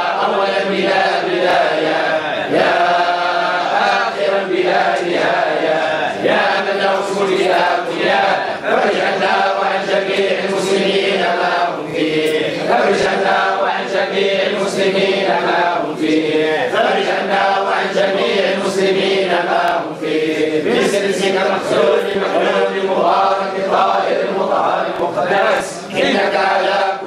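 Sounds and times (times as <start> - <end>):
men chanting: 0.0 - 27.0.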